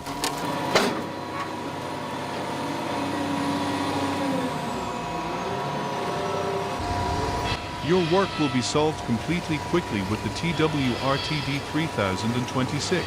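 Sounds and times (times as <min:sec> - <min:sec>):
heavy machine engine: 0:00.0 - 0:13.0
hydraulic whine: 0:00.6 - 0:13.0.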